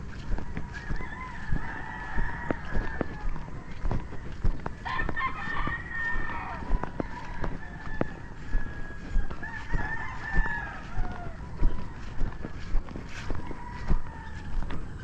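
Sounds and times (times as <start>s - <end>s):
footsteps on grassy path: 0.0s - 15.0s
roosters crowing: 0.0s - 15.0s.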